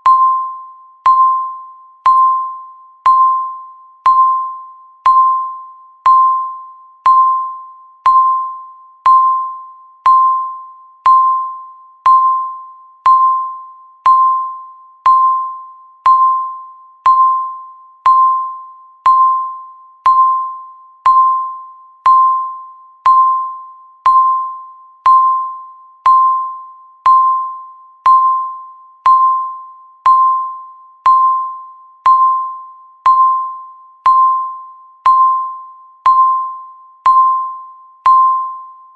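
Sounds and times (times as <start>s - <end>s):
timer beep ringing tone: 0.0s - 38.9s.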